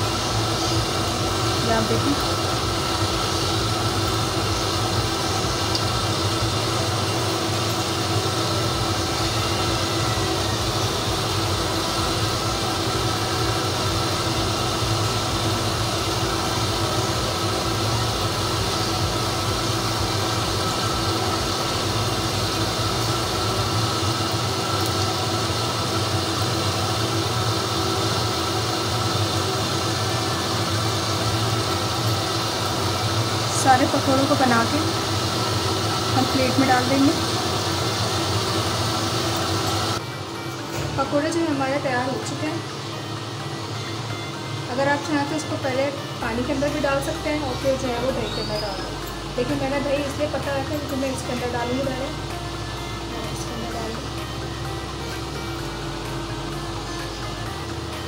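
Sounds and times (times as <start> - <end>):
oil sizzling while deep-frying: 0.0 - 58.0
steady hum: 0.0 - 58.0.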